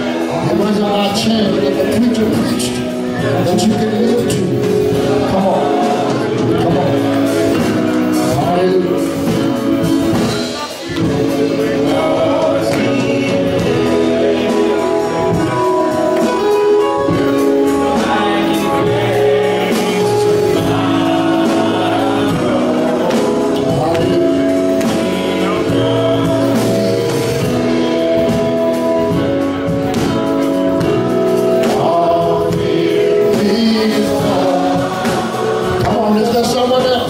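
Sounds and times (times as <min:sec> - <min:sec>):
gospel singing over chords: 0:00.0 - 0:37.0.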